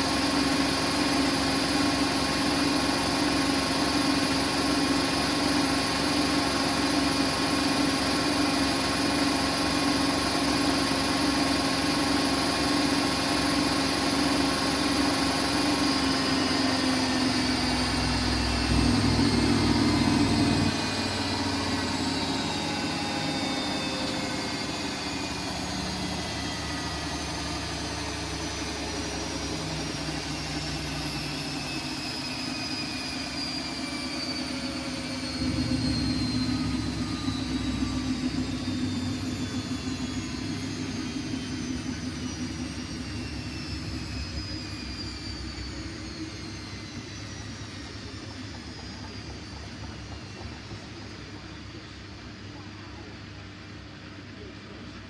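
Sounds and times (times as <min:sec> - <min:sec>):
washing machine hum and whine: 0:00.0 - 0:55.0.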